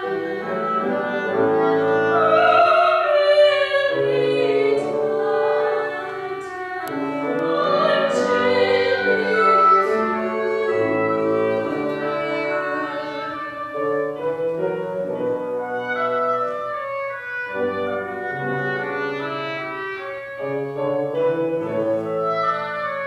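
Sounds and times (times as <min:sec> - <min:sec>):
bassoon playing: 0:00.0 - 0:23.0
clarinet playing: 0:00.0 - 0:23.0.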